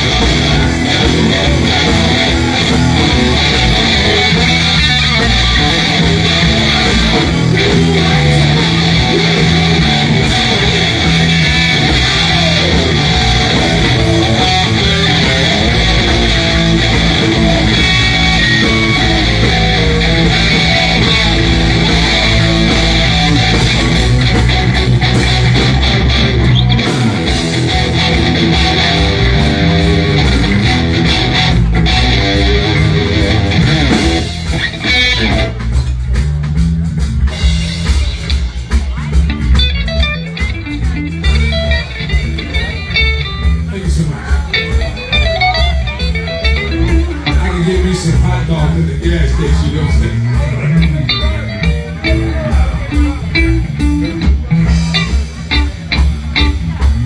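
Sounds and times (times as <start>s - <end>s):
electric guitar: 0.0s - 57.0s
live blues band playing: 0.0s - 57.0s.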